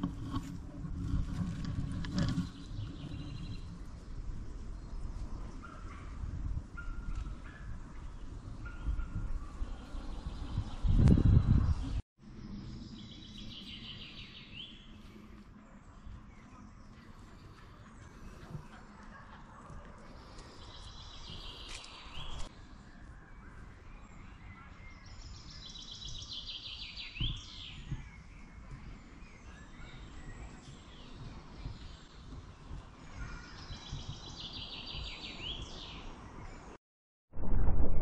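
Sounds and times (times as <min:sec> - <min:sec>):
songbird singing: 0:01.3 - 0:36.8.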